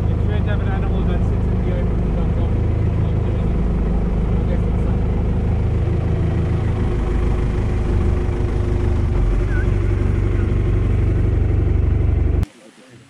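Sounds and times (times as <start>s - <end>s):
boat engine running: 0.0s - 12.5s.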